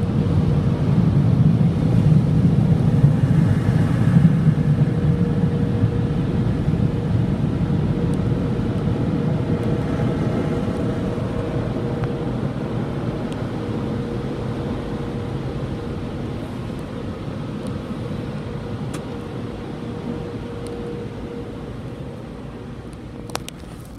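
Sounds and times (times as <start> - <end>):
car wash dryer blowers: 0.0 - 23.9.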